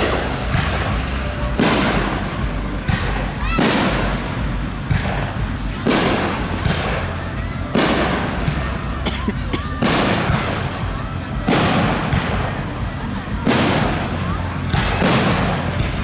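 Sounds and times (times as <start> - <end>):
fireworks booming: 0.0 - 16.0
sharp fireworks pops: 0.0 - 16.0.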